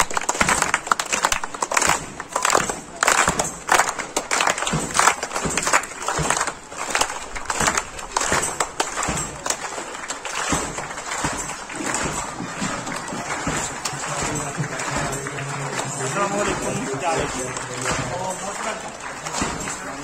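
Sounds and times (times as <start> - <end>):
children clapping: 0.0 - 20.0.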